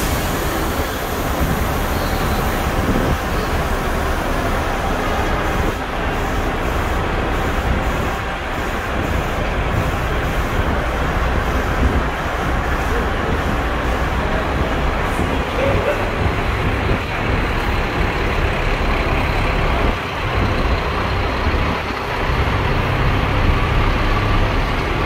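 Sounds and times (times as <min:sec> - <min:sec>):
bus engines rumbling: 0:00.0 - 0:25.0
traffic noise: 0:00.0 - 0:25.0.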